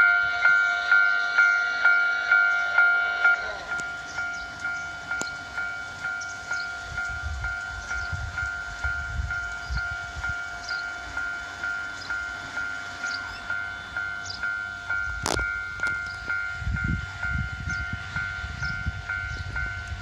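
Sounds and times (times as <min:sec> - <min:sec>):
level-crossing bell dinging: 0:00.0 - 0:20.0
railcar passing rumble: 0:00.0 - 0:20.0.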